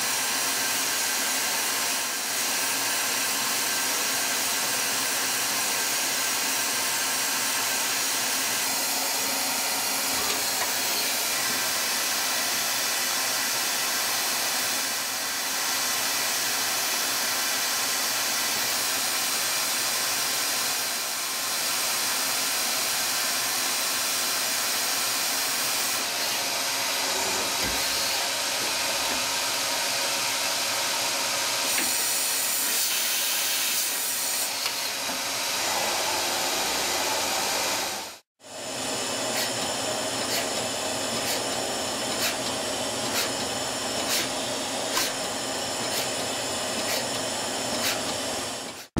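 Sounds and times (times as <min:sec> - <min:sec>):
lathe hissing and whining: 0:00.0 - 0:48.9.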